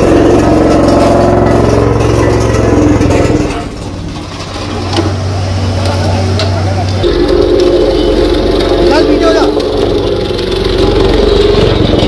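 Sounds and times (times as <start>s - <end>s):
diesel engine running loudly: 0.0s - 12.0s.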